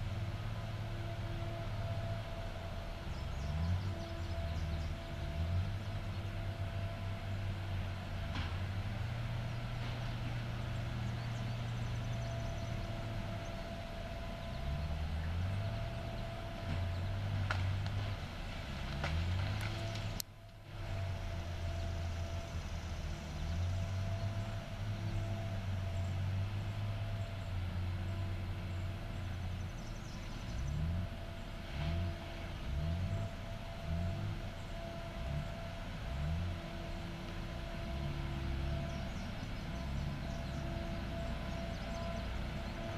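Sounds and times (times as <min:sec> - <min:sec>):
diesel engine under changing load: 0:00.0 - 0:42.9.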